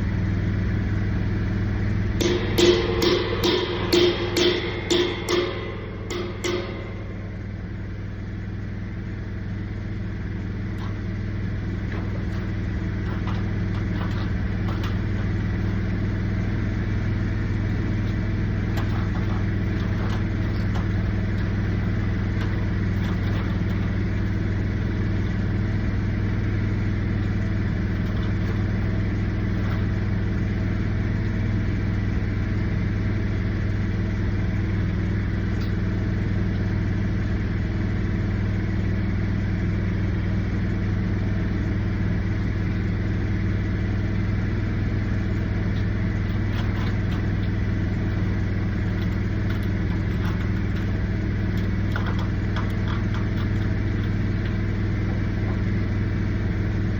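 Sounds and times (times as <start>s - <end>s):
engine running steadily: 0.0s - 56.9s.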